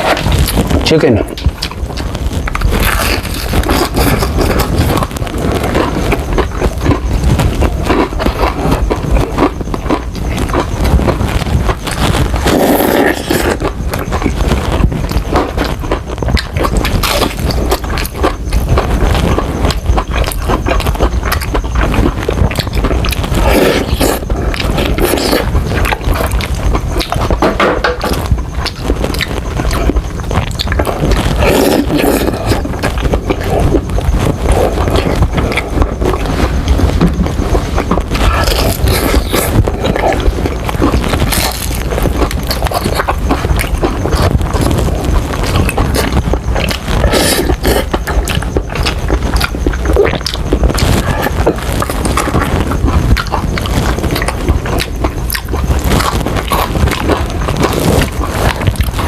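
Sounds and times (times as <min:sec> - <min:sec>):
crunching fried chicken: 0:00.0 - 0:59.0.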